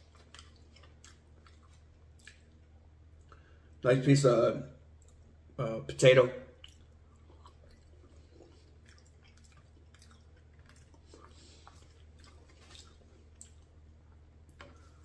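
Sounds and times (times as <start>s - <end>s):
faint chewing: 0.0s - 3.8s, 5.0s - 5.4s, 6.5s - 15.0s
low steady hum: 0.0s - 15.0s.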